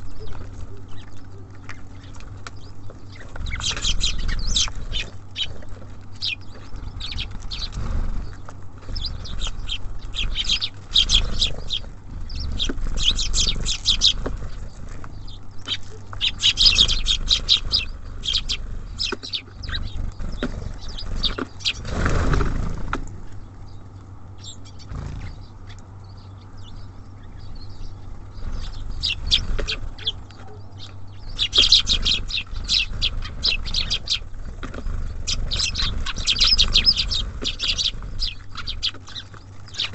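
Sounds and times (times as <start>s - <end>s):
songbirds chirping: 0.0s - 39.9s
steady low rumble: 0.0s - 39.9s.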